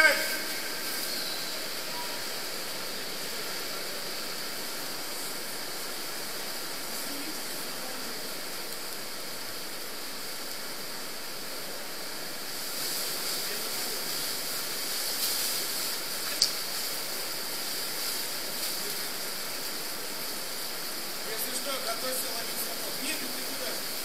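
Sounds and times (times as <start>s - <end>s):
water rushing through a tunnel: 0.0s - 24.0s.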